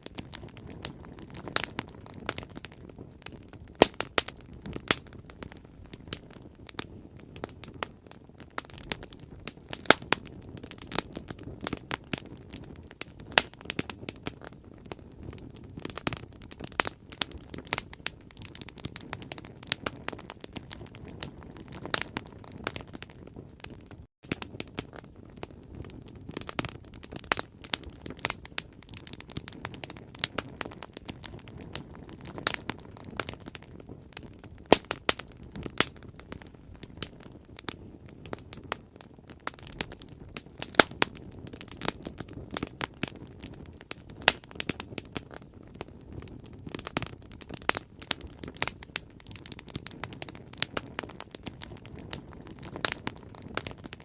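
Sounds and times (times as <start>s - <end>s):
bonfire crackling and popping: 0.0s - 54.0s
low hiss of burning: 0.0s - 54.0s.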